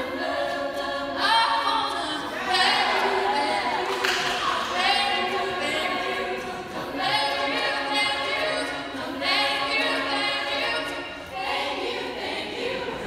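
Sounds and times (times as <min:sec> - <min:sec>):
sustained backing vocal harmonies: 0:00.0 - 0:13.0.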